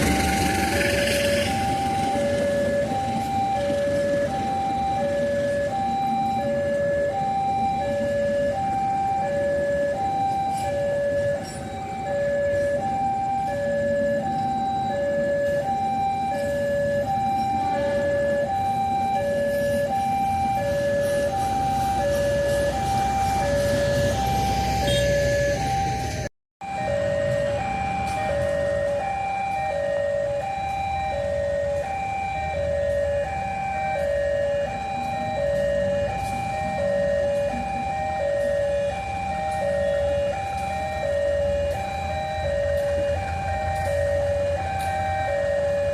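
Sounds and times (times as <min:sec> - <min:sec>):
two-tone electronic warning siren: 0:00.0 - 0:45.9.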